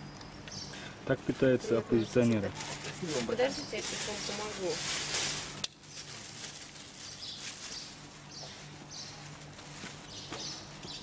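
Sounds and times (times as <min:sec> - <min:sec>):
plastic rustles: 0:01.1 - 0:11.0.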